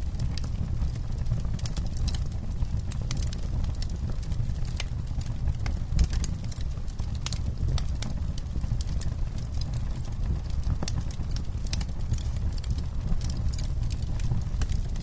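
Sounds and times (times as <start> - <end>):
crackles and pops of burning wood: 0.0 - 15.0.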